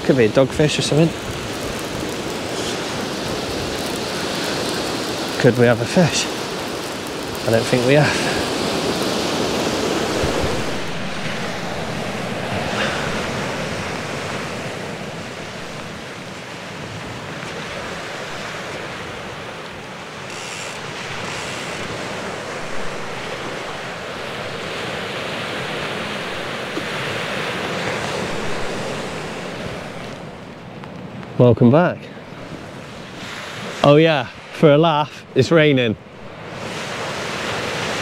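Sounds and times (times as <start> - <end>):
wind buffeting microphone: 0.0 - 31.2
sea surf washing ashore: 0.0 - 38.0.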